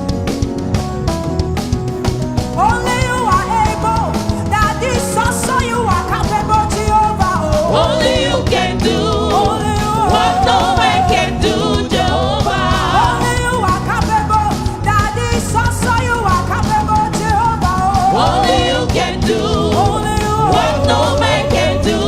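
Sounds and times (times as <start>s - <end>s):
band playing steady beat: 0.0s - 22.0s
gospel singers with vibrato: 2.6s - 22.0s.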